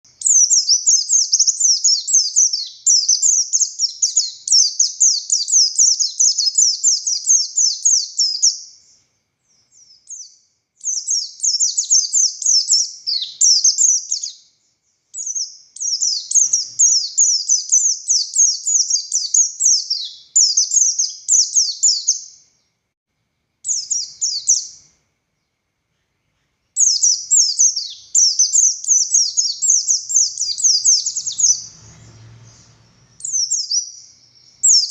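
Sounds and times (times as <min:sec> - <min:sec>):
bird chattering song: 0:00.1 - 0:22.4, 0:23.6 - 0:24.9, 0:25.9 - 0:34.9.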